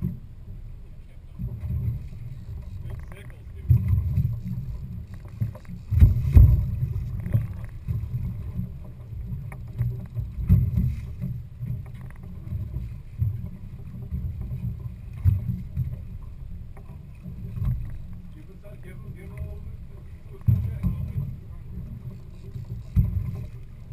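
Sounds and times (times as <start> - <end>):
boat rumble: 0.0 - 23.9
wind buffeting microphone: 1.3 - 23.9.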